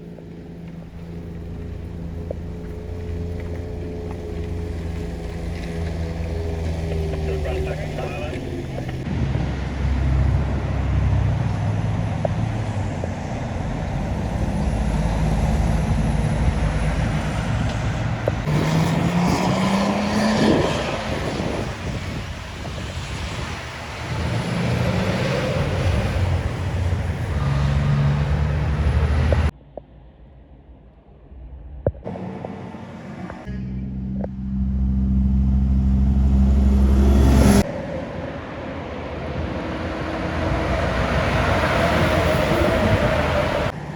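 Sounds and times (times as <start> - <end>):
truck engine accelerating: 0.0 - 29.6, 31.4 - 43.9
trucks driving past: 0.0 - 29.6, 31.4 - 43.9.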